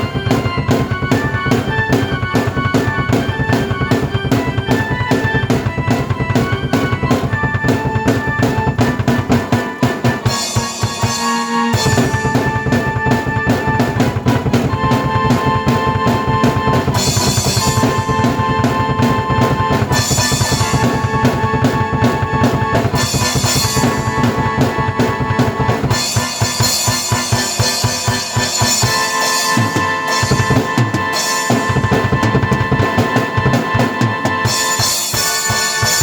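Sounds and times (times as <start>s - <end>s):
drum kit beat: 0.0s - 36.0s
keyboard chords: 0.0s - 36.0s.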